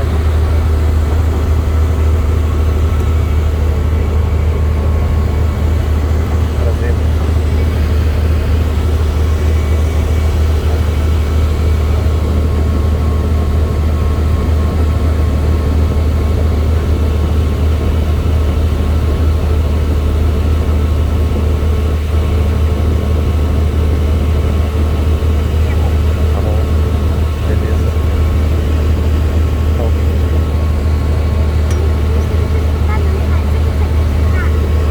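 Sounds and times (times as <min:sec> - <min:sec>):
helicopter rotor and engine drone: 0:00.0 - 0:34.9.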